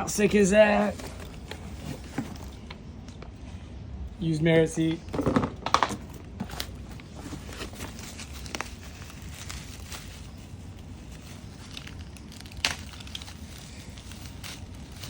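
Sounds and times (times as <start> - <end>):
packaging rustling and crinkling: 0.3 - 2.8, 5.2 - 15.0.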